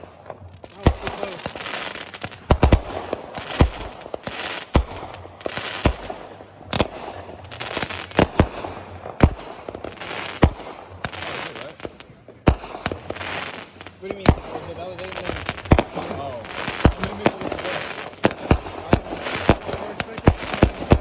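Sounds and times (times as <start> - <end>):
fireworks bangs: 0.0 - 21.0
fireworks hissing: 0.0 - 21.0.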